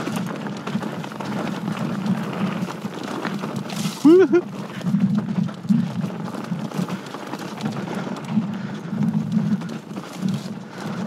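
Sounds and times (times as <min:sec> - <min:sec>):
bike clicks and rattles: 0:00.0 - 0:11.0
bike tyres rumbling over dirt: 0:00.0 - 0:11.0.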